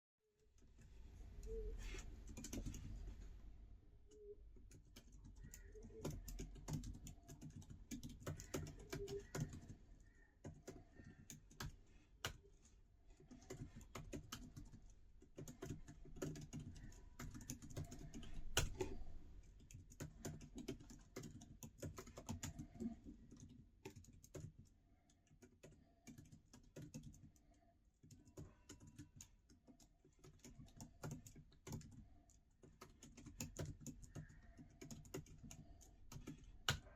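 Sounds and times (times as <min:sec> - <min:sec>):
laptop keyboard typing: 0:01.5 - 0:03.1, 0:04.2 - 0:36.9.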